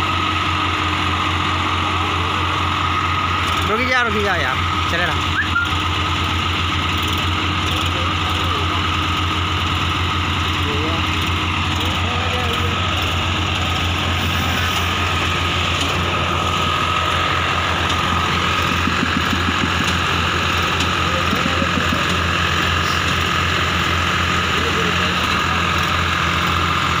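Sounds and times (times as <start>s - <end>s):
tractor diesel engines under load: 0.0s - 27.0s.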